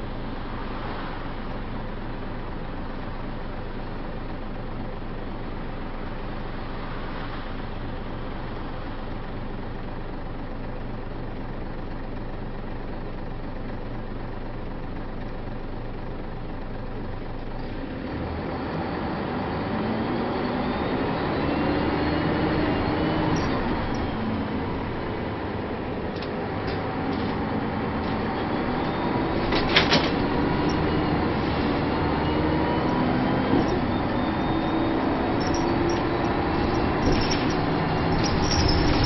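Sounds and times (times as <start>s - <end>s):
bus diesel engine: 0.0s - 39.0s.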